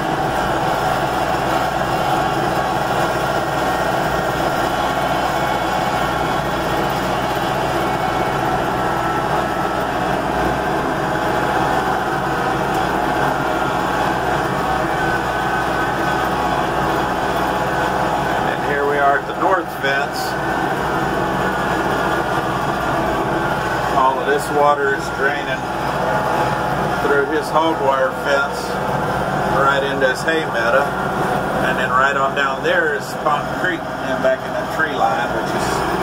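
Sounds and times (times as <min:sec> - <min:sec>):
vehicle engine drone: 0:00.0 - 0:36.0.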